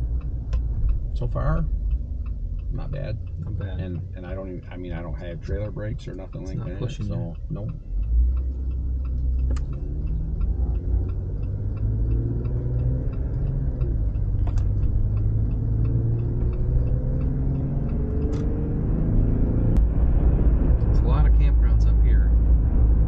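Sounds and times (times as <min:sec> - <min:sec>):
faint regular ticking: 0:00.0 - 0:18.6
engine and road rumble: 0:00.0 - 0:23.0.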